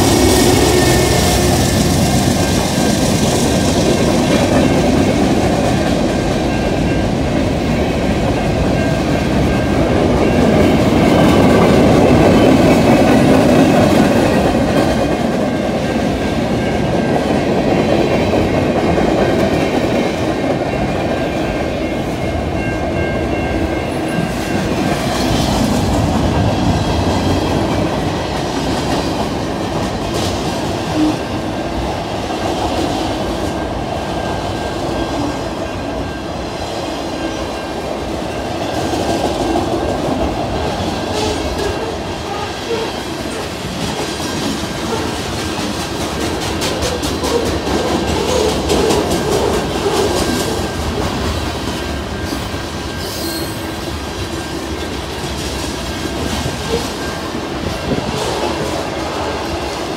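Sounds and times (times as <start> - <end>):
freight train cars rolling: 0.0 - 59.9.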